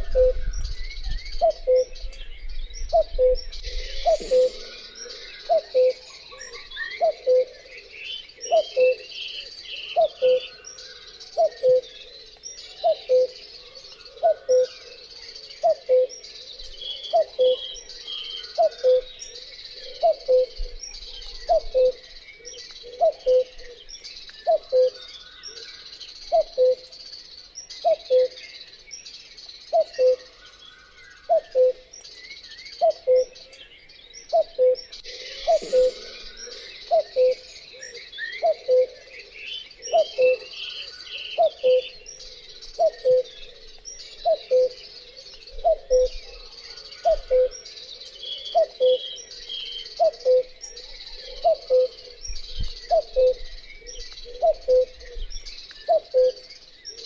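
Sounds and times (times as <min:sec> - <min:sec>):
cuckoo calling: 0:00.0 - 0:02.2, 0:02.8 - 0:26.9, 0:27.8 - 0:28.5, 0:29.7 - 0:30.4, 0:31.2 - 0:57.0
small birds chirping faintly: 0:00.0 - 0:57.0.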